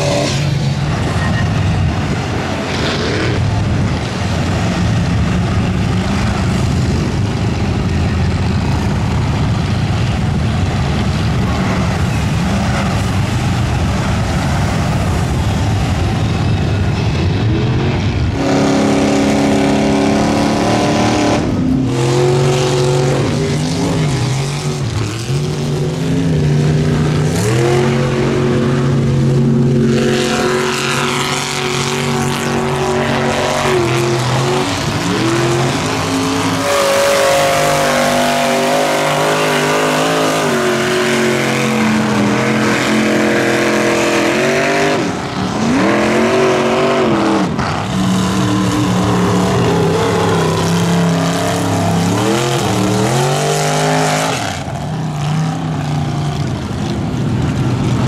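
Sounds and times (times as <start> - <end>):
truck engines revving hard: 0.0 - 58.0.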